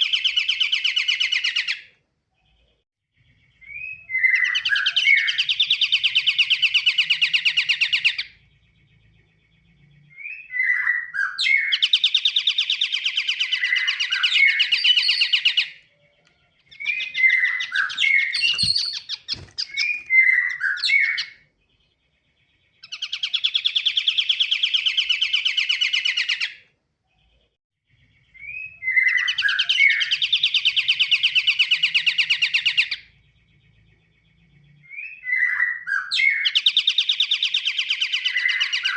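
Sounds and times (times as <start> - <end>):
bird song with whistles and trills: 0.0 - 38.9.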